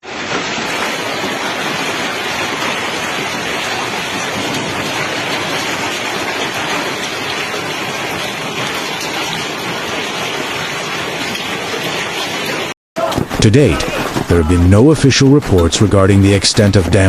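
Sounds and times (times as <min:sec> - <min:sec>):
hail and heavy rain pelting: 0:00.0 - 0:17.0.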